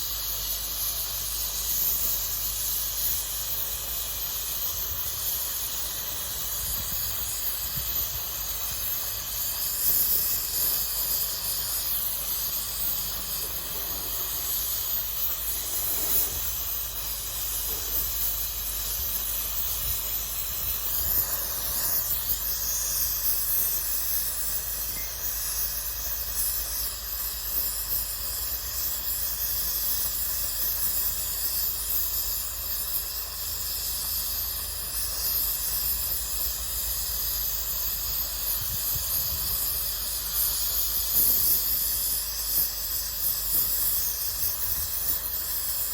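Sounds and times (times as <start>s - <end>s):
welding torch flame hissing: 0.0s - 45.9s.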